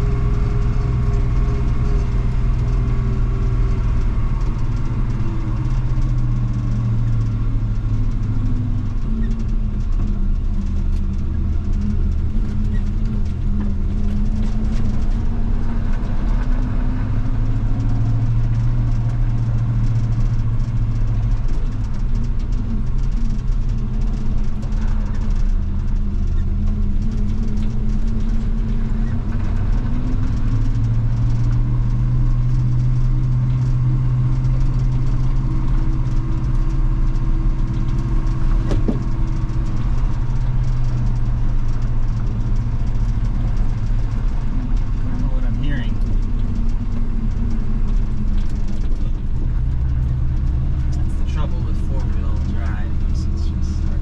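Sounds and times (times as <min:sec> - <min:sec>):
pickup truck engine running: 0:00.0 - 0:54.0.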